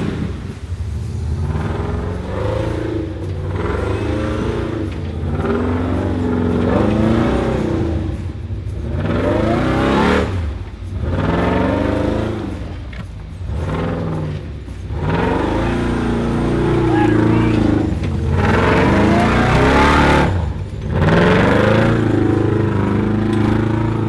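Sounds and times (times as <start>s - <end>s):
off-road engine revving: 0.0s - 24.0s.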